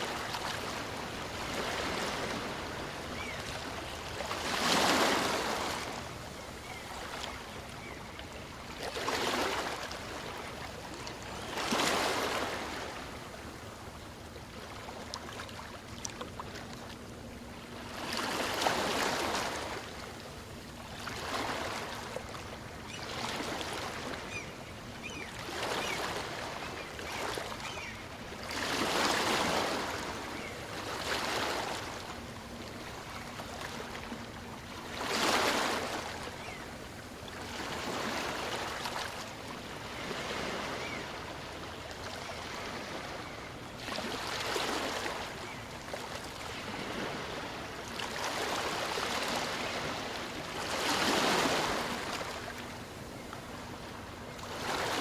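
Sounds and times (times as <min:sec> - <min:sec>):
small waves washing on shore: 0:00.0 - 0:17.0, 0:25.0 - 0:55.0.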